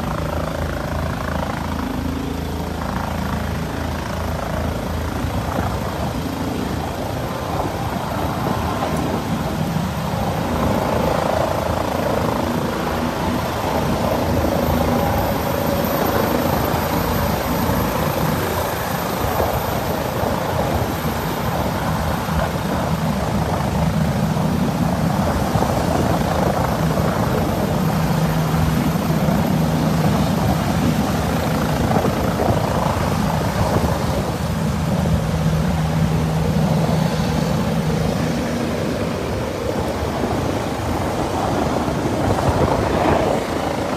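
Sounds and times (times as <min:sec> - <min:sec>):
helicopter rotor and turbine: 0:00.0 - 0:43.9.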